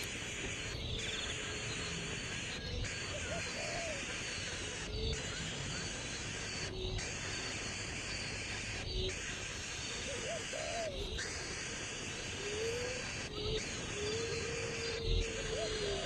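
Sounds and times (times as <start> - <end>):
bird hooting: 0.0 - 16.0.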